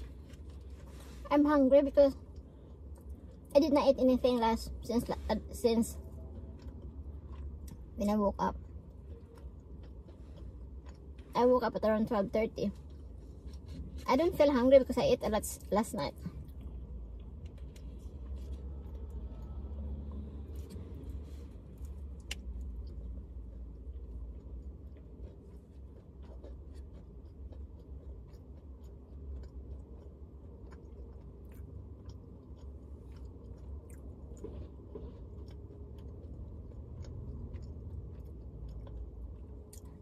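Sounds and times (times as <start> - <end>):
person chewing food: 0.0 - 1.3, 2.2 - 3.5, 5.9 - 11.4, 12.3 - 14.4, 15.6 - 40.0
steady low hum: 0.0 - 40.0.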